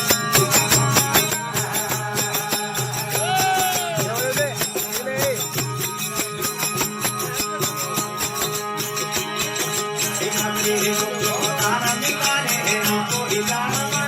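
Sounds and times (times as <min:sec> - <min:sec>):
jingling hand percussion: 0:00.0 - 0:14.0.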